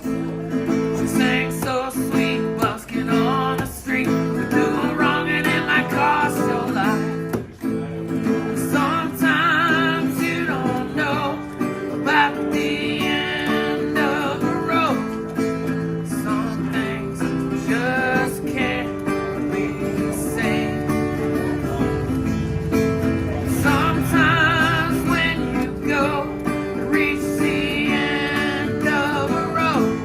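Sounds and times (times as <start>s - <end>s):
man singing country song: 0.0s - 30.0s
strummed acoustic guitar: 0.0s - 30.0s.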